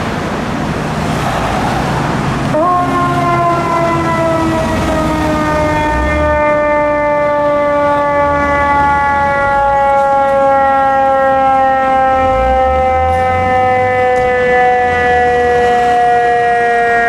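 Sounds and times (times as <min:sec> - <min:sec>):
fire engine siren wail: 0:01.0 - 0:17.0.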